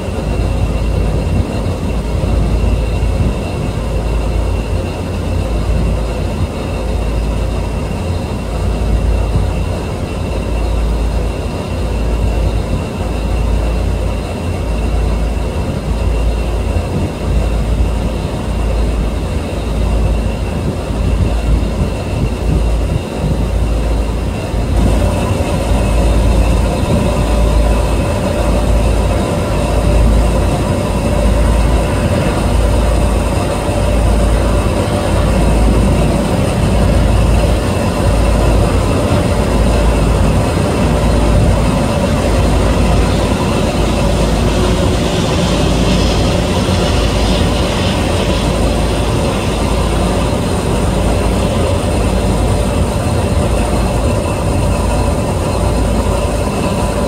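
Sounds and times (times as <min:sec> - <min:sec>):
boat engine droning: 0:00.0 - 0:57.0
wind rumbling on microphone: 0:00.0 - 0:57.0.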